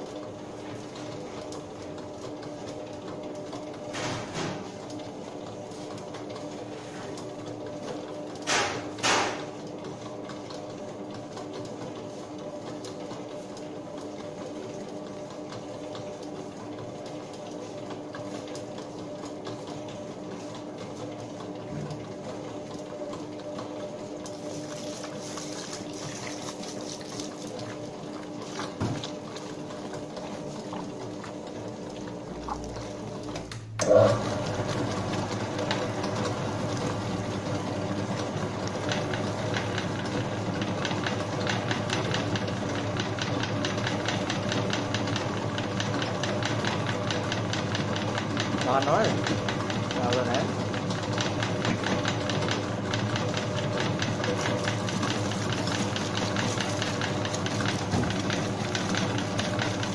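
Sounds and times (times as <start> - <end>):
dough hook churning dry dough: 0.0 - 59.9
dough mixer motor humming: 0.0 - 59.9.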